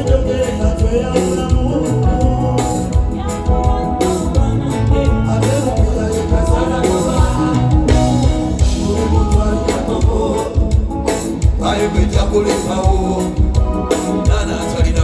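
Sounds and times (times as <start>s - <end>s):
bass and drum beat: 0.0s - 15.0s
live band music: 0.0s - 15.0s
person singing: 0.0s - 15.0s.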